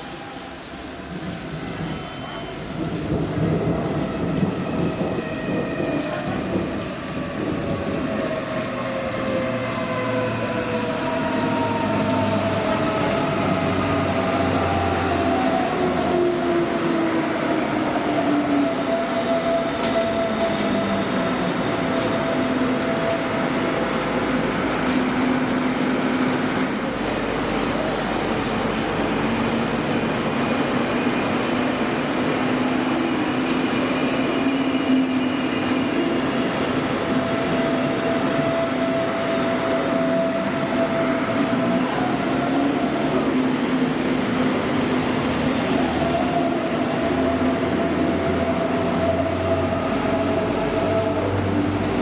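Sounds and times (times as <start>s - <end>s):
train cars rumbling: 0.0s - 52.0s.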